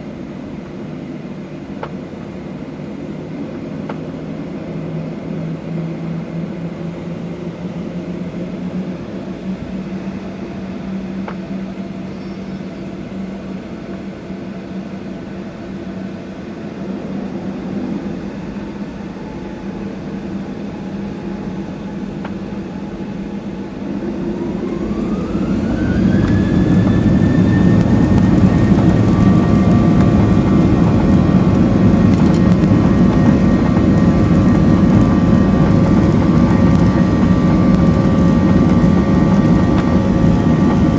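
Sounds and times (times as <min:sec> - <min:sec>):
jet engines from inside cabin: 0:00.0 - 0:40.9.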